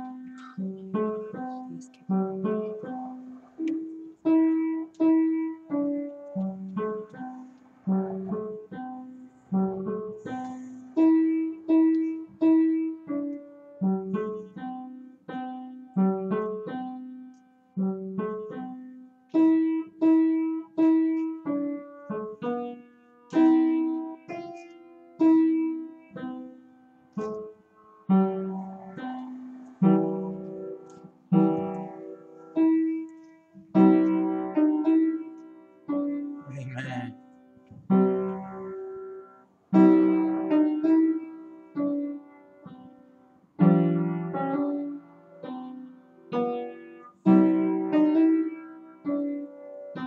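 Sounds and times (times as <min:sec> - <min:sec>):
solo piano melody: 0:00.0 - 0:36.5, 0:37.1 - 0:50.0.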